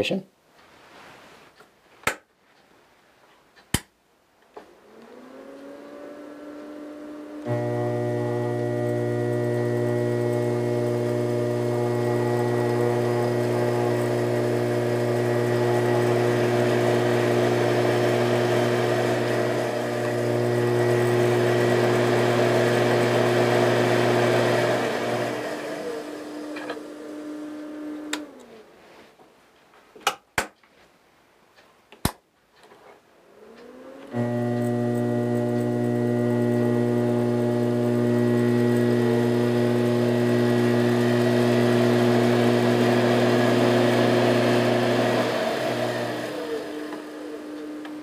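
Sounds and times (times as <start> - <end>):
electric motor humming: 4.7 - 28.6, 33.4 - 48.0.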